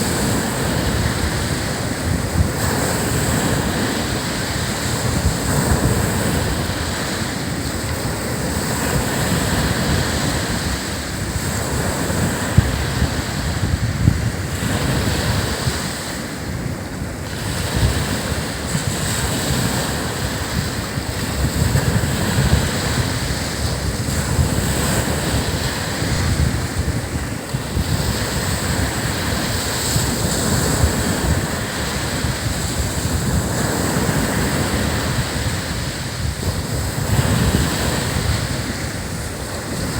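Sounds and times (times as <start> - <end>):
surf breaking on beach: 0.0 - 39.9
wind buffeting microphone: 0.0 - 39.9.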